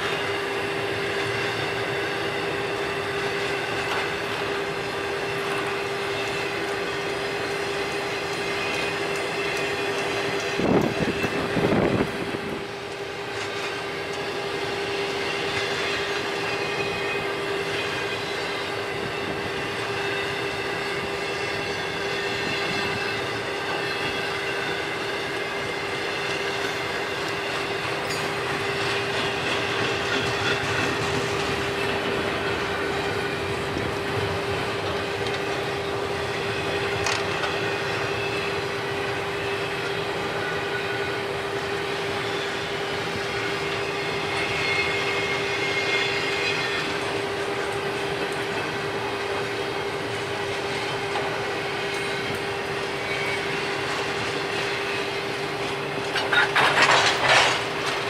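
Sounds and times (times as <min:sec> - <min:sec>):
freight cars rolling on rails: 0:00.0 - 0:58.0
steady whining tone: 0:00.0 - 0:58.0.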